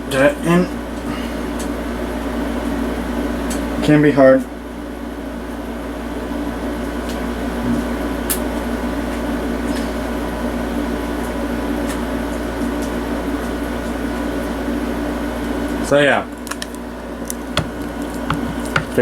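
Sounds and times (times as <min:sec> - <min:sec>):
fan hum: 0:00.0 - 0:19.0.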